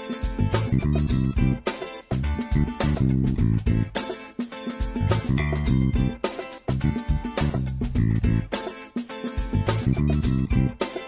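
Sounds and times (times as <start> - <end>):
funk ringtone tune: 0.0 - 11.0.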